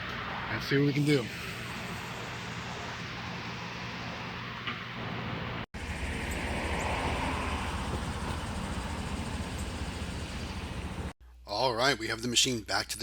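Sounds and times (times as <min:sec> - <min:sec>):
vehicle engine and road noise: 0:00.0 - 0:11.2.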